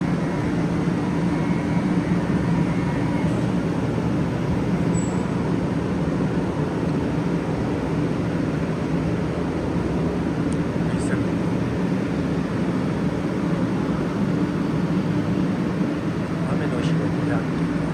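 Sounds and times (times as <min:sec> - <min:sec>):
train rumbling: 0:00.0 - 0:17.9.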